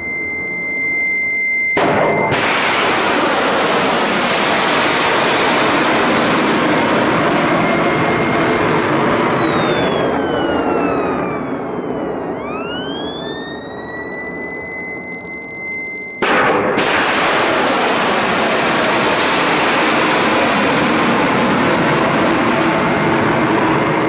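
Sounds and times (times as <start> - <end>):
high steady tone: 0.0 - 2.7, 7.2 - 24.0
high tone sliding downward: 0.0 - 24.0
rocket motor roar: 1.8 - 15.5, 16.2 - 24.0.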